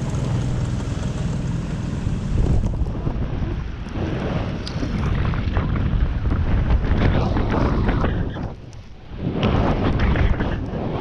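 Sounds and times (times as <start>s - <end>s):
wind on microphone: 1.9s - 11.0s.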